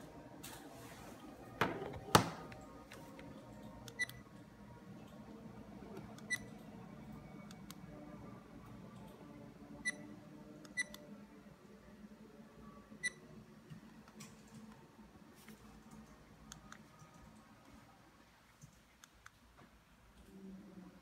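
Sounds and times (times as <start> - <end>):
faint low room hum: 0.0 - 21.0.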